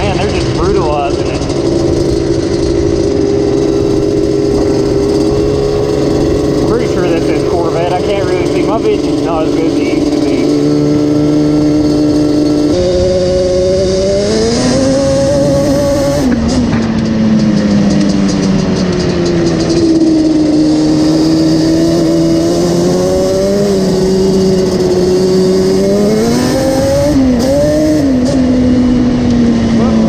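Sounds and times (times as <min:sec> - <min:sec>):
two-stroke engine running: 0:00.0 - 0:30.0.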